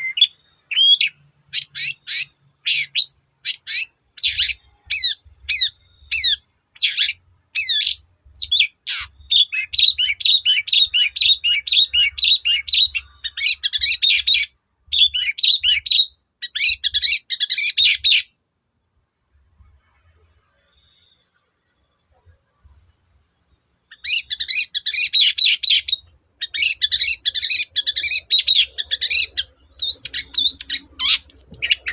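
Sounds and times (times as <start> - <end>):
bird singing sharp chirps: 0.0 - 18.3, 23.9 - 31.9.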